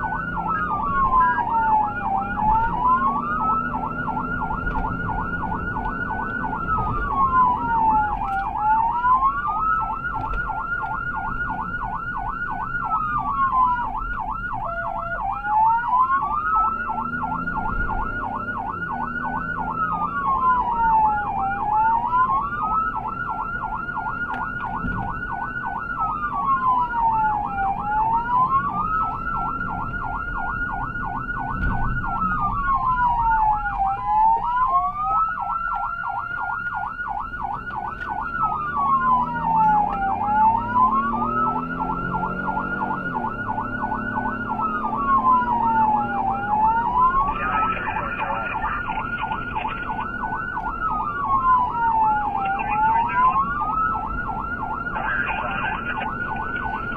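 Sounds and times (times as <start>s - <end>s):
emergency siren: 0.0s - 56.9s
road and engine rumble: 0.0s - 56.9s.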